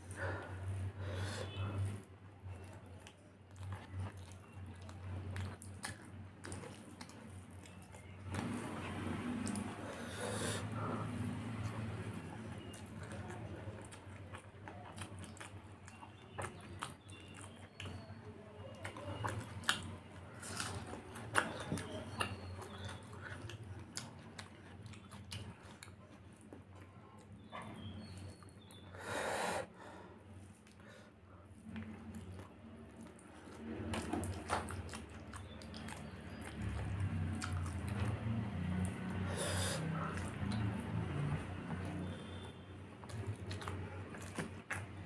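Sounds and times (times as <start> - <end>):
mouth-full chewing: 0.0 - 45.0.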